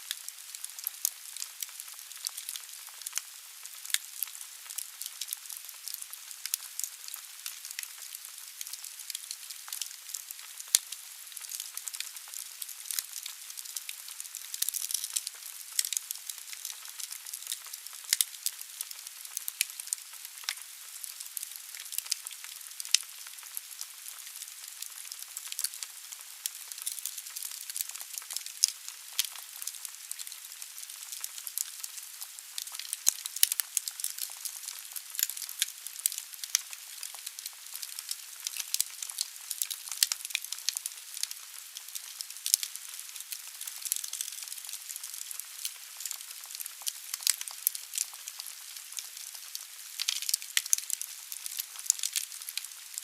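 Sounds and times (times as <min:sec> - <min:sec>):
burning logs crackling and popping: 0:00.0 - 0:53.0.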